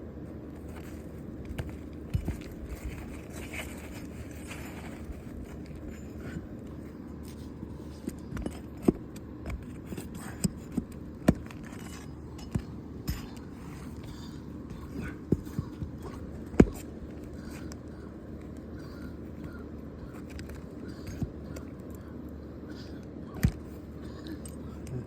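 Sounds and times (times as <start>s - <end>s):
shingle scraping: 0.5s - 21.7s.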